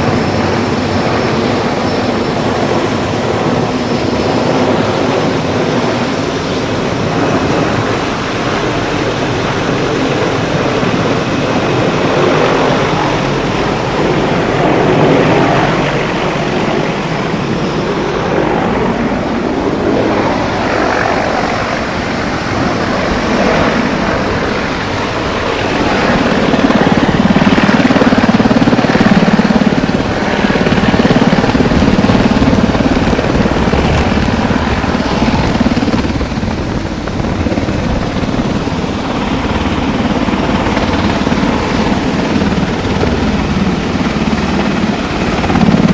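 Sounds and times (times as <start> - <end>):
helicopter hovering: 0.0 - 45.9.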